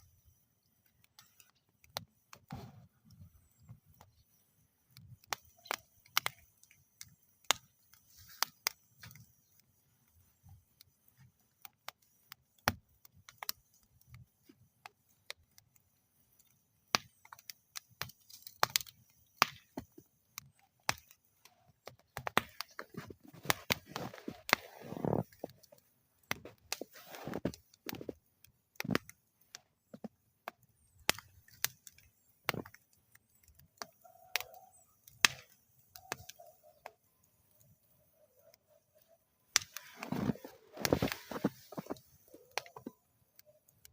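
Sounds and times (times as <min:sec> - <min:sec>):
campfire crackling and popping: 0:00.0 - 0:43.9
soft fire hiss: 0:00.0 - 0:43.9.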